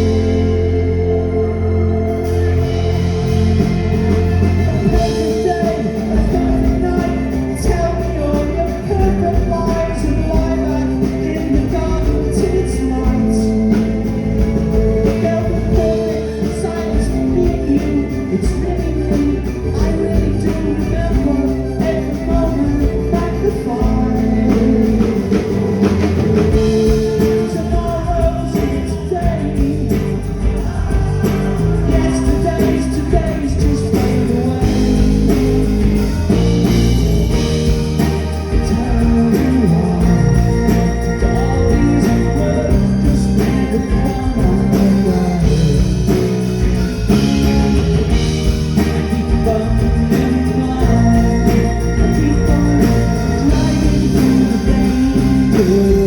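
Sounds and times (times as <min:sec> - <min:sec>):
live pop-rock band: 0:00.0 - 0:56.0
person singing: 0:00.0 - 0:56.0.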